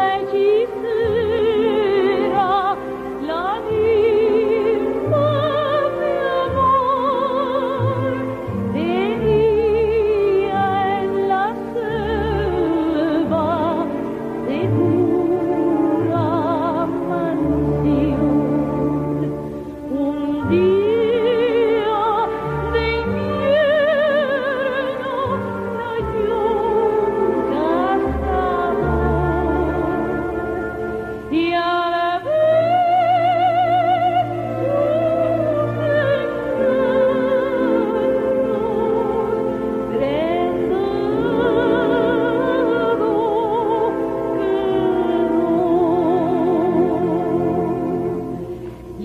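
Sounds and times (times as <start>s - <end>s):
instrumental accompaniment: 0.0s - 49.0s
operatic singing high voice: 0.0s - 49.0s.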